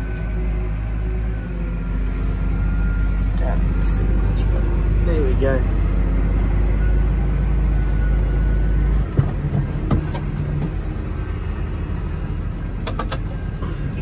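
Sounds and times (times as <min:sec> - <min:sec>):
farm machinery engine drone: 0:00.0 - 0:14.0.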